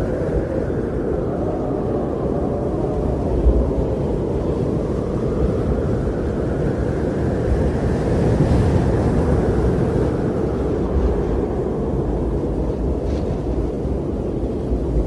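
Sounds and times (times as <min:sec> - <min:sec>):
blizzard wind rushing: 0:00.0 - 0:15.0.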